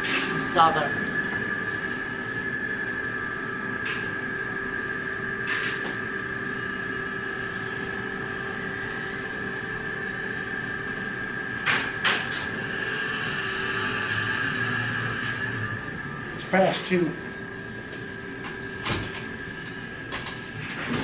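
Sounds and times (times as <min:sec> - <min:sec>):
elevator hum with high whine: 0:00.0 - 0:21.0.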